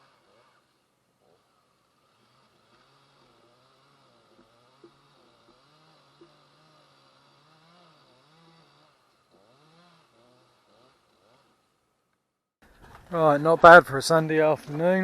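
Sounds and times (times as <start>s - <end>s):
faint engine running: 0.0s - 15.0s.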